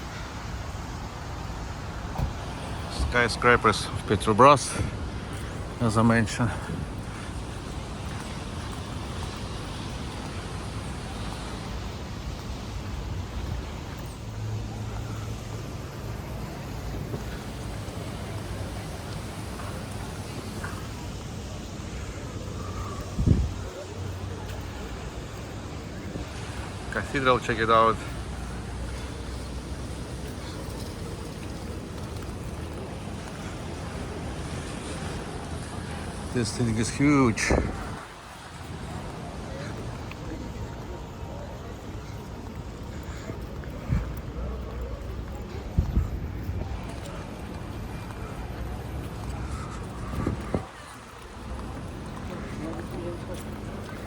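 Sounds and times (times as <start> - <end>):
passing motor vehicles rumble: 0.0 - 54.0
street hiss: 0.0 - 54.0.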